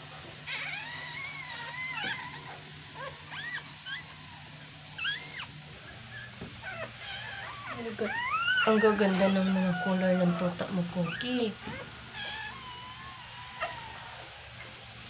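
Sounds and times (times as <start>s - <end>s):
faint low hum: 0.0s - 15.0s
puppies crying with high squeaks: 0.4s - 14.8s.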